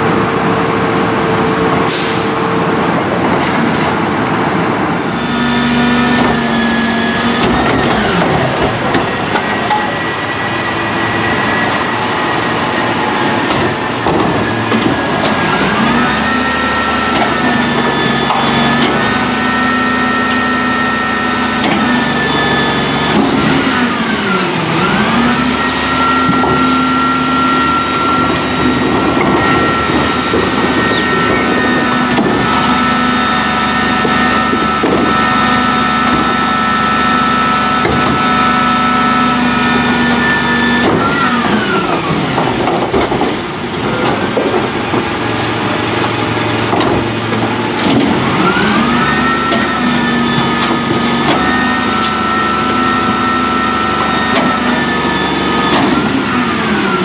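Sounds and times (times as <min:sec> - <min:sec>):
garbage truck diesel engine: 0:00.0 - 0:57.0
hydraulic packer cycling: 0:05.1 - 0:57.0.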